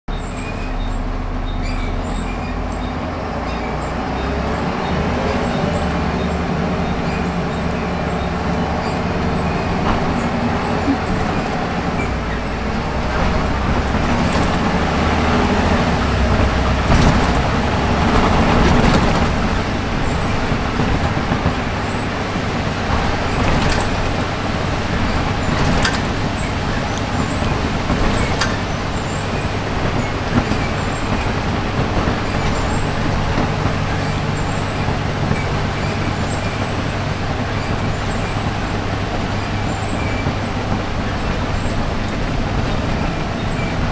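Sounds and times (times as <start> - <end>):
bus diesel engine pulling: 0.0 - 43.9
road noise: 0.0 - 43.9
interior rattles and clicks: 0.1 - 43.9.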